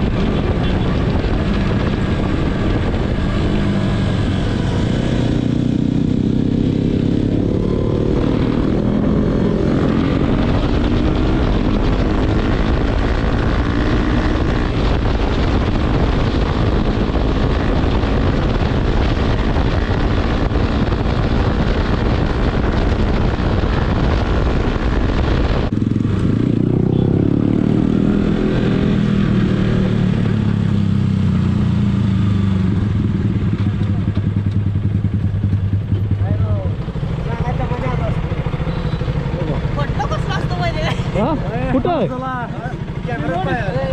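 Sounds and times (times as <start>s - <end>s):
wind noise on microphone: 0.0s - 37.1s
motorcycle engine running: 0.0s - 43.9s.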